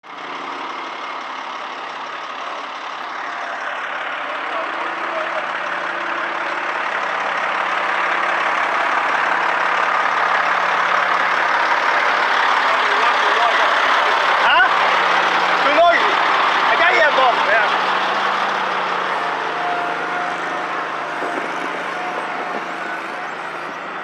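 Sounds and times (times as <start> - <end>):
paving machine engine running: 0.0 - 24.0.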